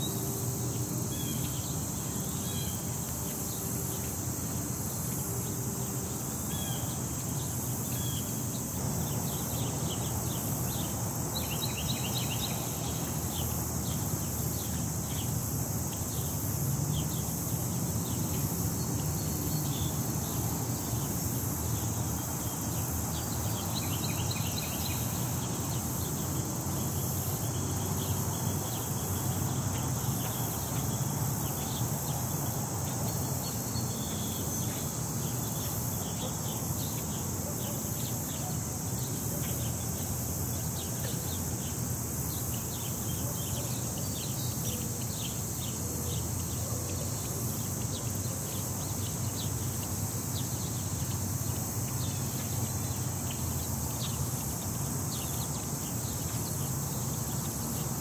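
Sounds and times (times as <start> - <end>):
high-pitched hiss: 0.0 - 58.0.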